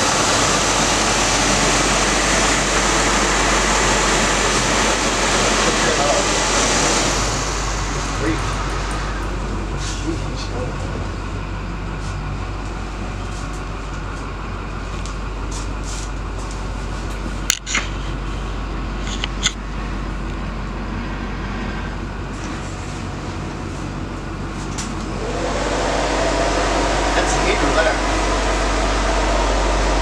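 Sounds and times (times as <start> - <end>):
air conditioning blower rush: 0.0 - 30.0
idling engine hum: 0.0 - 30.0.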